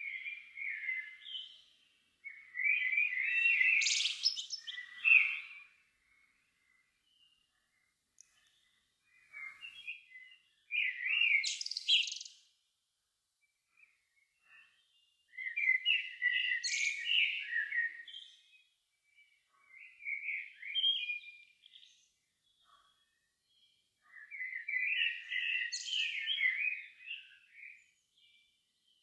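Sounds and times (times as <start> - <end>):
songbirds twittering: 0.0 - 12.6, 13.4 - 29.0.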